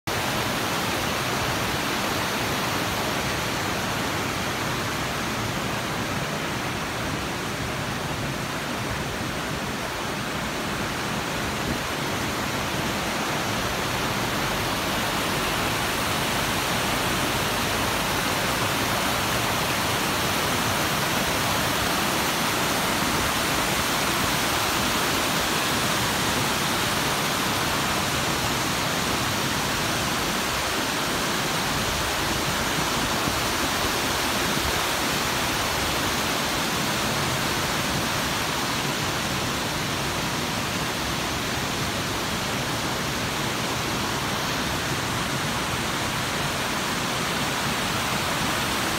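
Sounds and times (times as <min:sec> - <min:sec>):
waterfall and stream rushing: 0:00.0 - 0:48.9.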